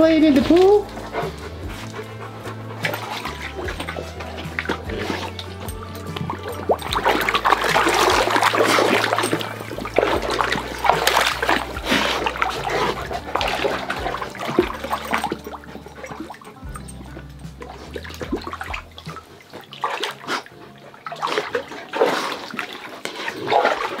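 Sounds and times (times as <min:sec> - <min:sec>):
dog splashing in water: 0:00.2 - 0:24.0.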